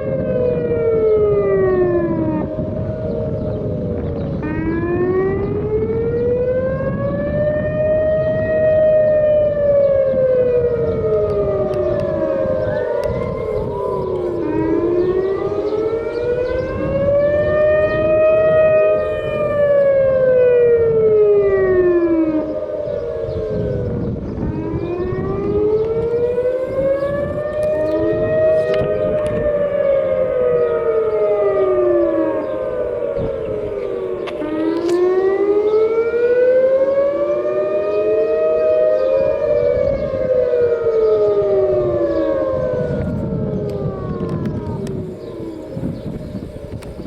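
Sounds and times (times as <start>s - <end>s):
warning sirens wailing: 0.0s - 47.0s.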